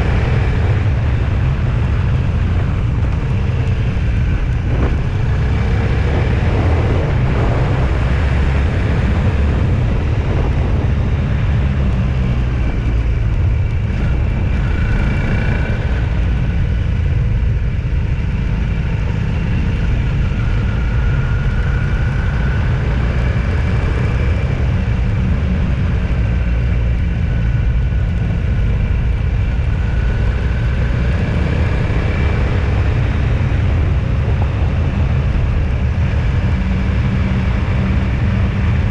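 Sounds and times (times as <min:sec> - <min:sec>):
vehicle engine and tyre noise: 0:00.0 - 0:38.9.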